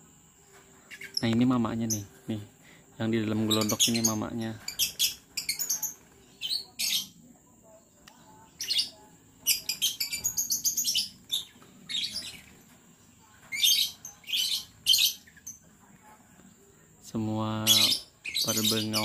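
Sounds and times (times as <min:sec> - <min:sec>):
lovebirds chattering calls: 0:00.8 - 0:07.2, 0:08.1 - 0:15.9, 0:17.1 - 0:19.0.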